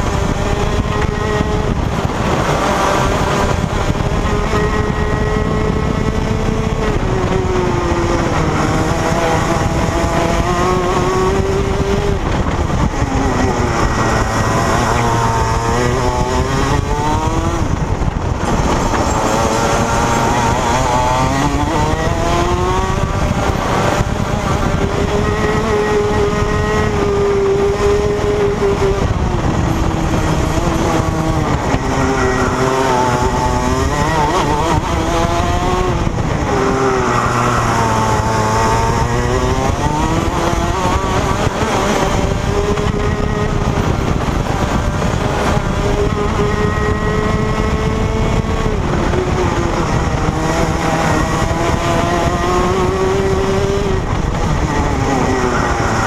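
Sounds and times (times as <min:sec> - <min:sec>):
kart engine accelerating and slowing: 0:00.0 - 0:56.0.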